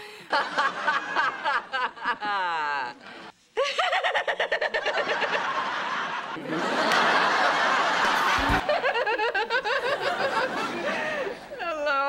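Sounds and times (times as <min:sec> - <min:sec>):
studio audience laughter: 0:00.3 - 0:11.5.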